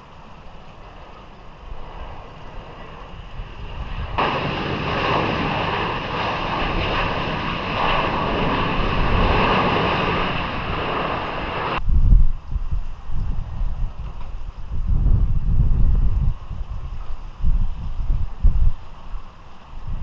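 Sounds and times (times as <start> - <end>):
jet engines passing close: 0.0 - 20.0
wind rumble on microphone: 0.0 - 20.0.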